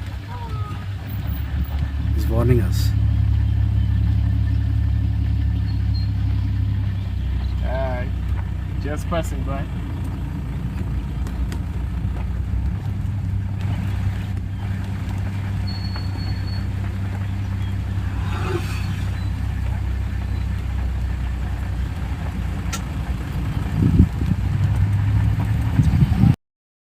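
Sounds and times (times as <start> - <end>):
vehicle engine idling: 0.0 - 26.4.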